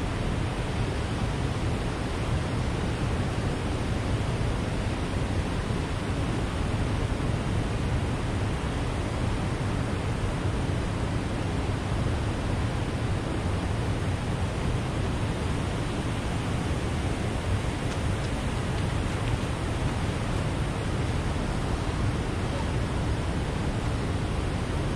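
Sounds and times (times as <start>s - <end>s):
water rushing below dam: 0.1s - 24.9s.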